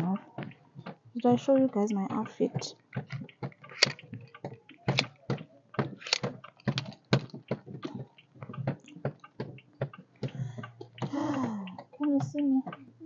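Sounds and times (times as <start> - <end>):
light clicks and knocks: 0.0 - 12.9.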